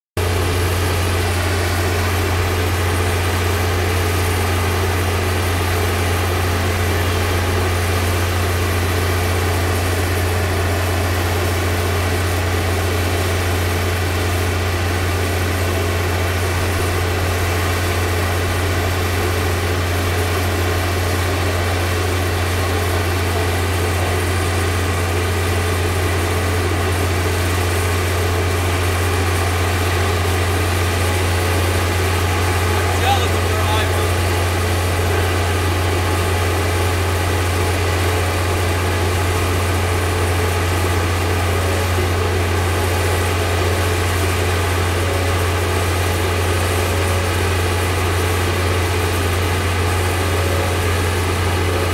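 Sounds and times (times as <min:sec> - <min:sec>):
crane engine droning: 0:00.2 - 0:51.9.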